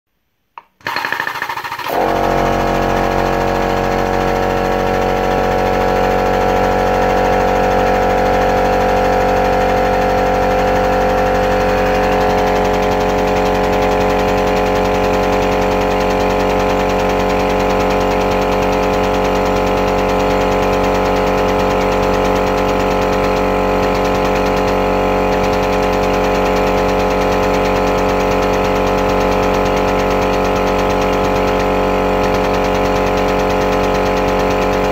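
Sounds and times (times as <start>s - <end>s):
hydraulic pump humming: 0.6s - 34.9s.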